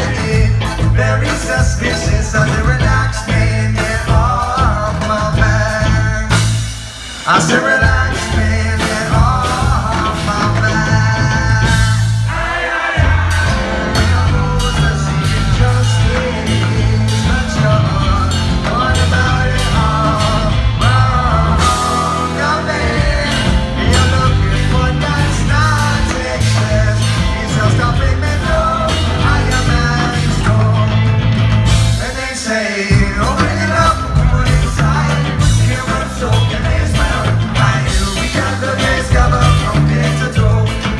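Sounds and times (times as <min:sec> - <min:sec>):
live rock band playing: 0:00.0 - 0:40.9
man singing: 0:00.0 - 0:40.9.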